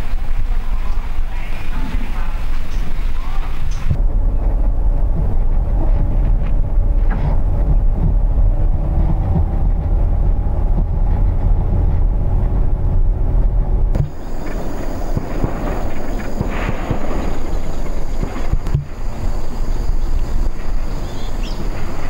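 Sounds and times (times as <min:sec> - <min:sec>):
car engine and tyres rumbling: 0:03.8 - 0:22.0.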